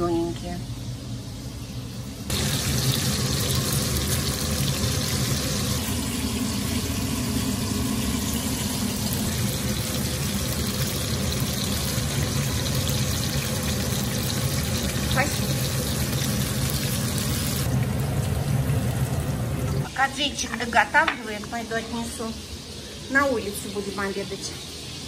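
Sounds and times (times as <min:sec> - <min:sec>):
potatoes sizzling in hot oil: 0:02.3 - 0:25.0.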